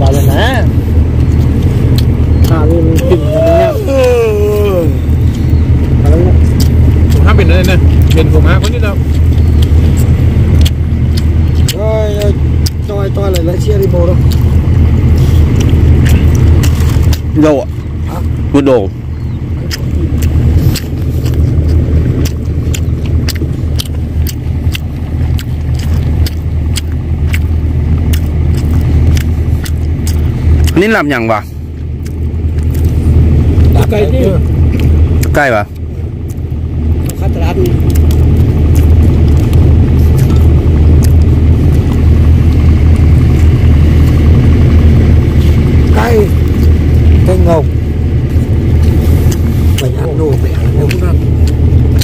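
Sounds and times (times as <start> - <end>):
engine idling rumble: 0.0 - 52.0.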